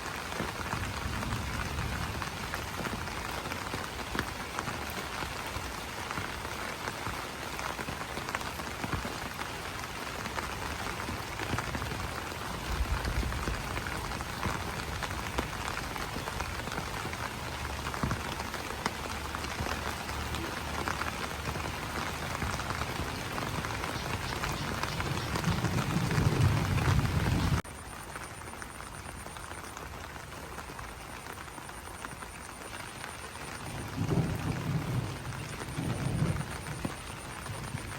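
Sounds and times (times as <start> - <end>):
rain pattering on leaves: 0.0 - 37.9.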